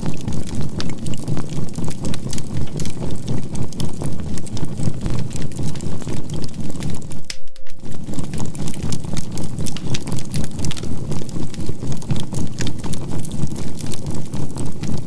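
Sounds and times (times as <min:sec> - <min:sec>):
charcoal fire crackling: 0:00.0 - 0:15.0
pulsing low hum: 0:00.0 - 0:15.0.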